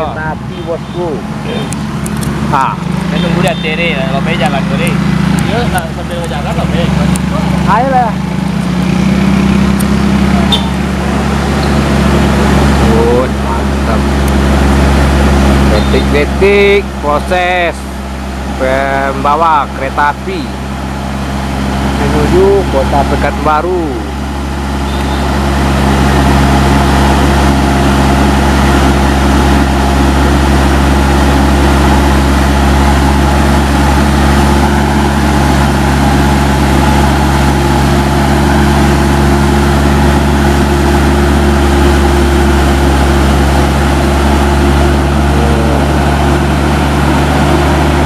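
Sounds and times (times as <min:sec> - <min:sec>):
truck diesel engine droning: 0:00.0 - 0:48.0.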